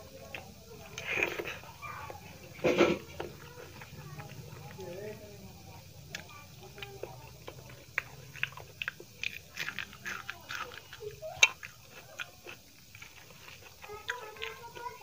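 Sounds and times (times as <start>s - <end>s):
fingers mixing food on steel plate: 0.0s - 15.0s
person chewing food: 0.0s - 15.0s.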